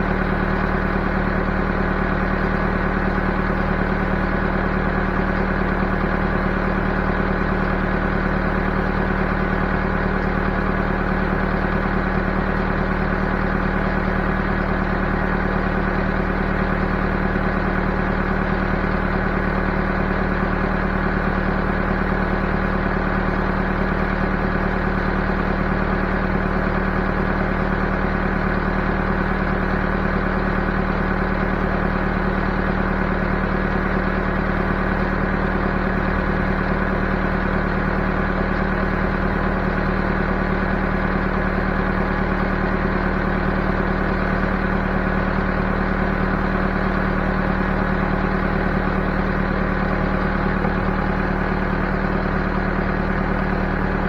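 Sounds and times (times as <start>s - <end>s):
backhoe engine running: 0.0s - 54.0s.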